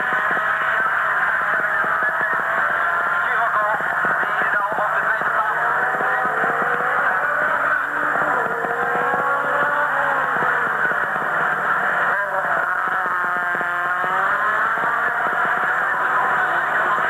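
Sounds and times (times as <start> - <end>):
racing car engines accelerating: 0.0 - 17.0.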